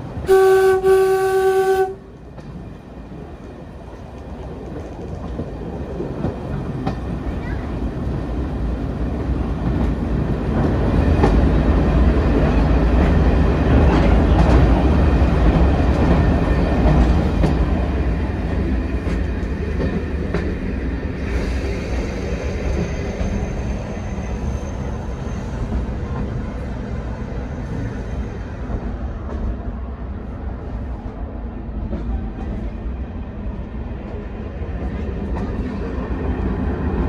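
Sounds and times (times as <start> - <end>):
train rumble: 0.0 - 37.0.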